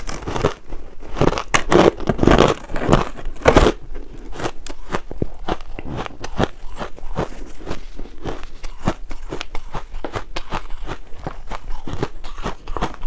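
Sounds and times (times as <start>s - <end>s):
ice crunching between teeth: 0.0s - 13.0s.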